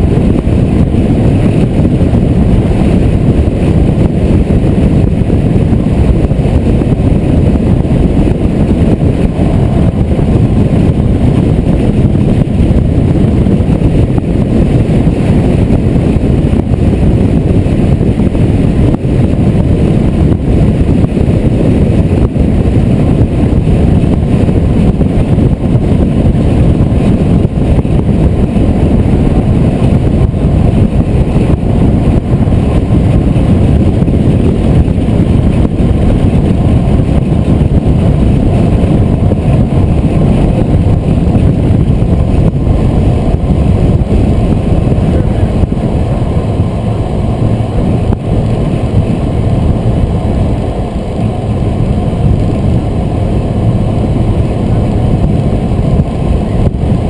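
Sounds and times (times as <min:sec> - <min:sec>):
wind and road noise rumble: 0:00.0 - 0:57.0.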